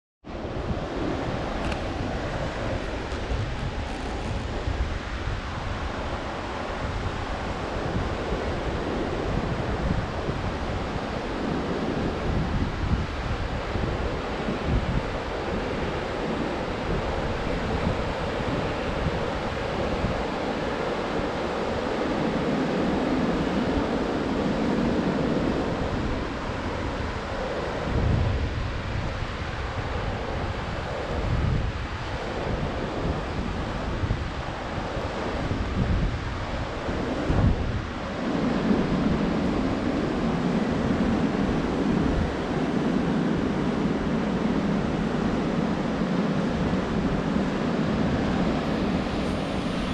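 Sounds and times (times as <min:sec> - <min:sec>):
wind buffeting microphone: 0:00.3 - 0:49.9
ocean surf breaking: 0:00.4 - 0:49.9.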